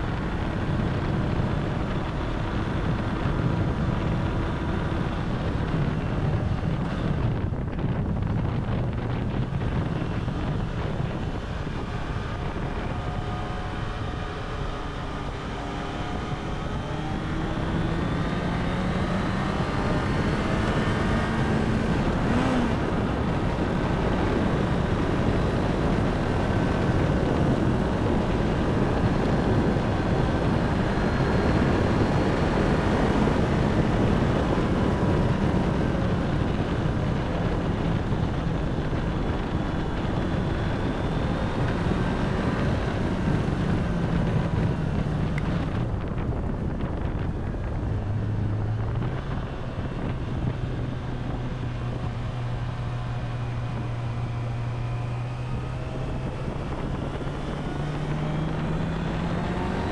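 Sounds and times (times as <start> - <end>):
motorcycle engine at speed: 0.0 - 59.9
wind rush on microphone: 0.0 - 59.9.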